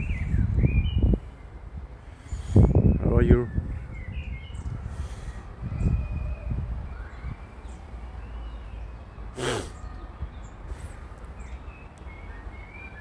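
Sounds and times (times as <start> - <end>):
faint small birds chirping: 0.0 - 13.0.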